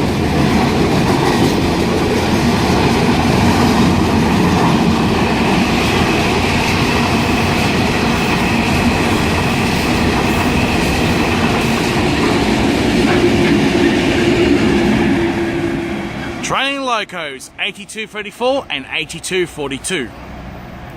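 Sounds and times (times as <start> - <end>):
freight train wagons rumbling: 0.0 - 19.5
diesel locomotive engine hum: 0.0 - 20.9.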